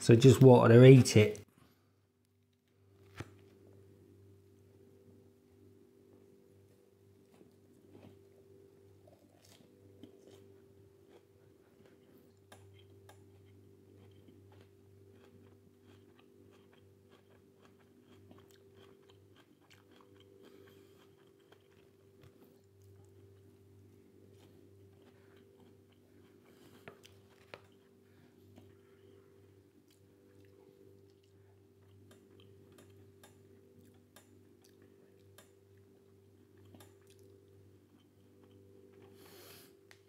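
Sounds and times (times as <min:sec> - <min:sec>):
steady low hum: 0:00.0 - 0:40.0
person chewing lettuce: 0:07.2 - 0:39.7.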